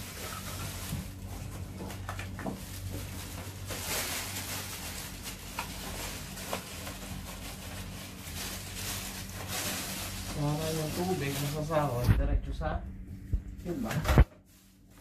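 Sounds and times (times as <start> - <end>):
plastic sheeting rustling: 0.0 - 12.2, 13.6 - 15.0
steady low hum: 0.0 - 15.0.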